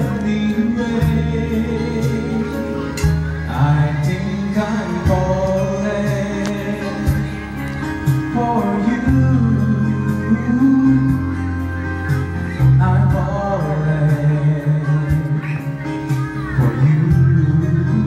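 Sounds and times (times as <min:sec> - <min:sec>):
backing track with bass and drums: 0:00.0 - 0:18.0
man singing karaoke: 0:00.0 - 0:18.0.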